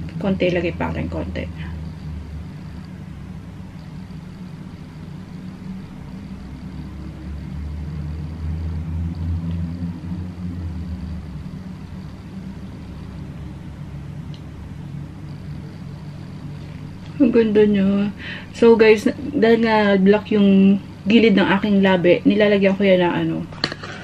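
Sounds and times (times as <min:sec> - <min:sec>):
low background rumble: 0:00.0 - 0:23.6
faint high whine: 0:00.0 - 0:24.0.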